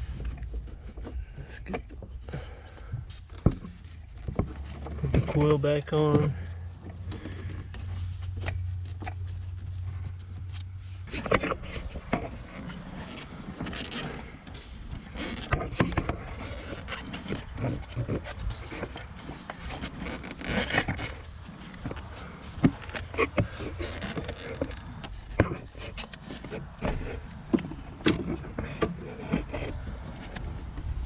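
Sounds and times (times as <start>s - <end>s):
low steady hum: 0.0s - 31.0s
rubbing and scraping: 0.0s - 31.0s.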